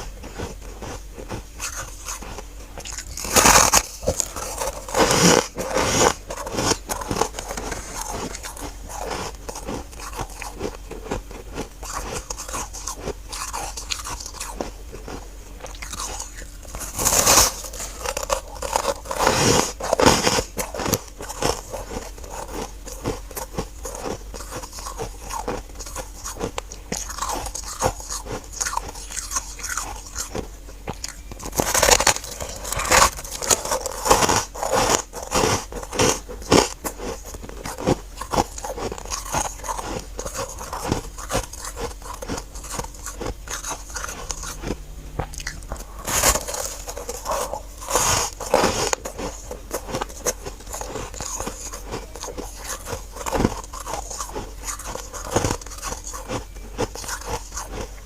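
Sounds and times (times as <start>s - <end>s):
chewing ice crunching: 0.0s - 58.0s.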